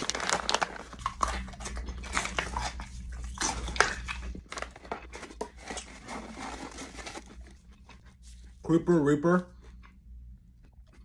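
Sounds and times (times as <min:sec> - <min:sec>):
chewing crunchy nuts: 0:00.0 - 0:08.6, 0:09.5 - 0:11.0.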